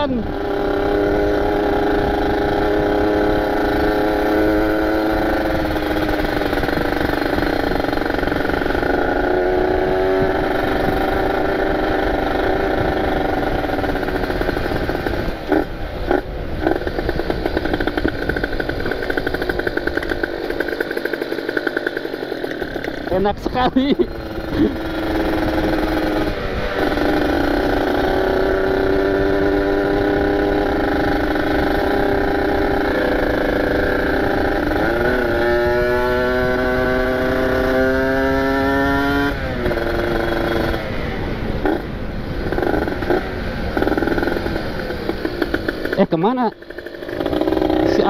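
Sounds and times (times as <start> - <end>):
wind rumbling on microphone: 0.0 - 21.1, 22.7 - 48.0
two-stroke motorcycle engine revving: 0.0 - 48.0.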